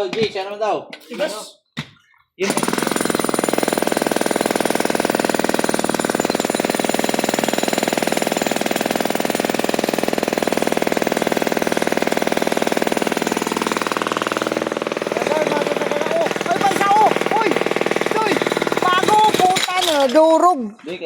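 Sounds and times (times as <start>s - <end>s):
jackhammer hammering: 2.4s - 20.3s.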